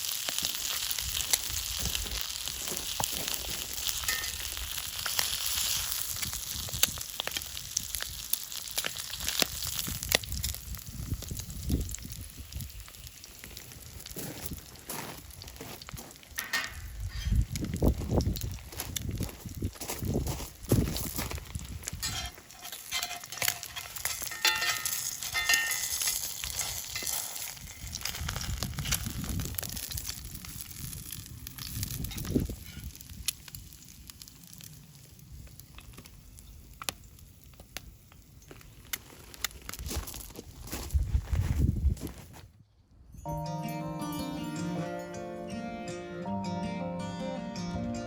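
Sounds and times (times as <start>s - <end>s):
bacon and eggs sizzling: 0.0s - 39.9s.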